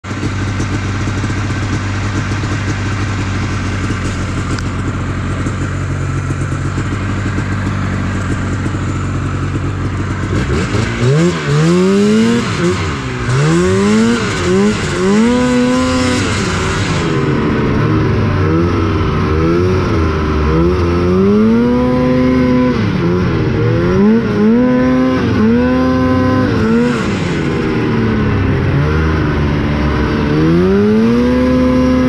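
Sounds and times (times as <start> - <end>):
snowmobile engine idling and revving: 0.0 - 32.0.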